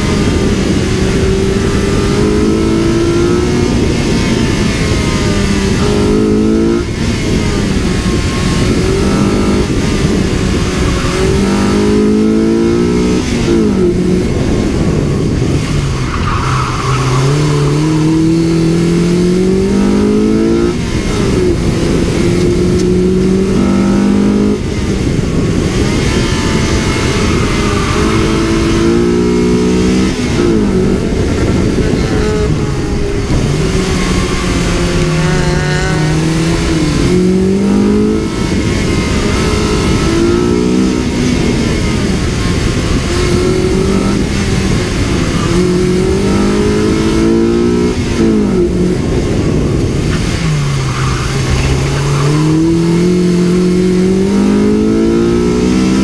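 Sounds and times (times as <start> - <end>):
car engine revving: 0.0 - 56.0
wind and road noise: 0.0 - 56.0.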